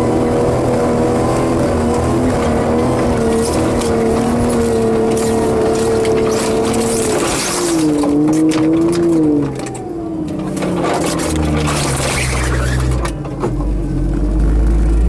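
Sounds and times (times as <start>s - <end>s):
snowmobile engine running: 0.0s - 13.2s.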